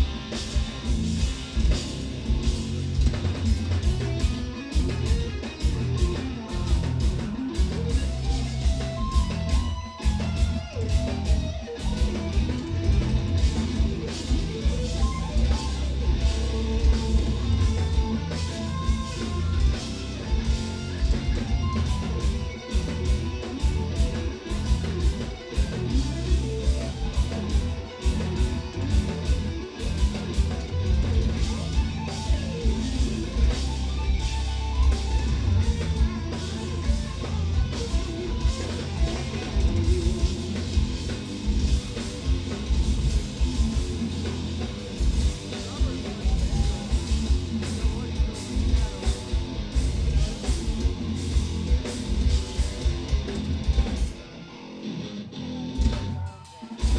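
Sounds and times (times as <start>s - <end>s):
drum kit: 0.0s - 55.0s, 55.6s - 56.9s
electric guitars playing metal riffs: 0.0s - 56.9s.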